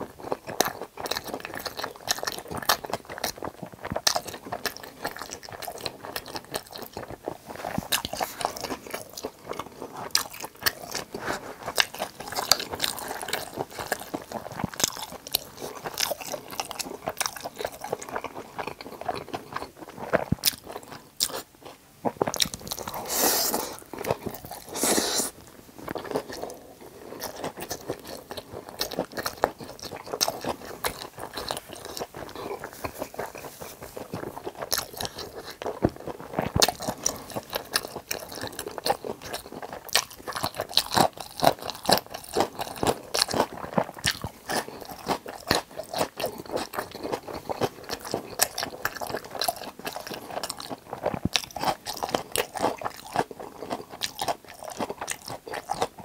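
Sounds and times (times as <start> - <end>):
crisp crunching of fried food: 0.0 - 56.0.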